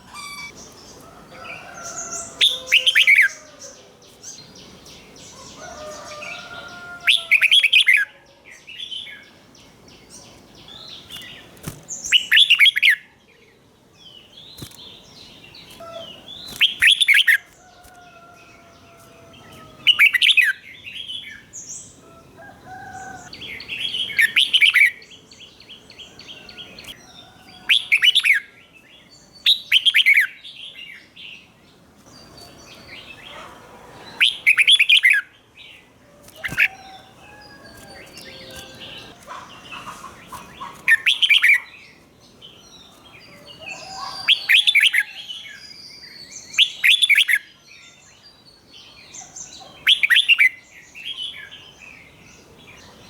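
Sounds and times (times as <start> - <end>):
bird singing warbled phrases: 0.0 - 22.0, 22.9 - 53.0
quieter bird calls: 0.0 - 53.0.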